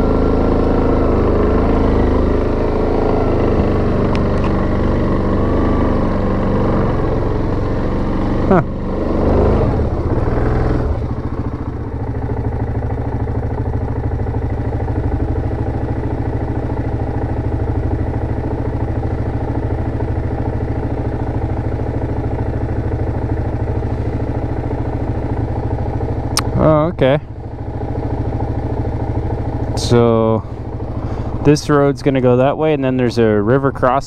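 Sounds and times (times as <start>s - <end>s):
atv engine idling: 0.0s - 34.0s.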